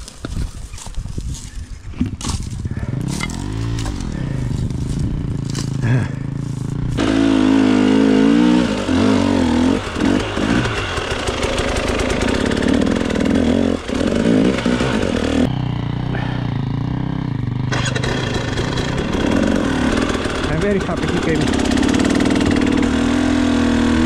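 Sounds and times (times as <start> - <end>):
dirt bike engine revving: 2.6 - 24.0.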